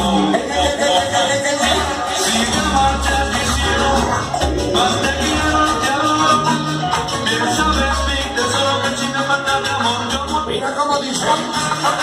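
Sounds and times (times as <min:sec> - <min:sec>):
loud tropical dance music: 0:00.0 - 0:12.0.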